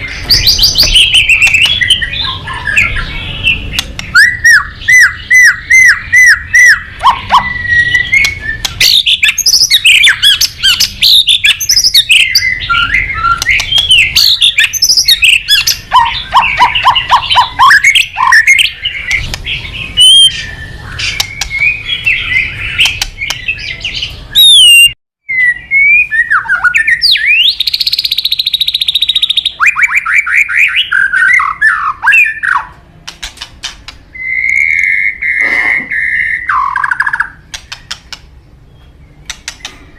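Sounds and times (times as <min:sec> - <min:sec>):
bird singing whistled notes: 0:00.0 - 0:32.7, 0:34.1 - 0:38.0.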